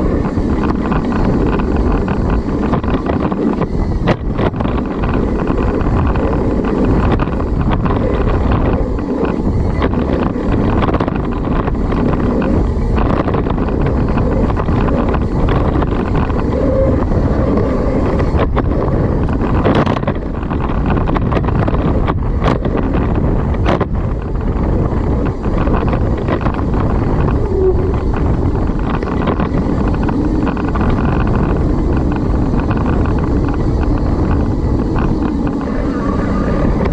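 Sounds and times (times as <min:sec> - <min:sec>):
bike clacking over bumps: 0:00.0 - 0:36.9
wind buffeting microphone: 0:00.0 - 0:36.9.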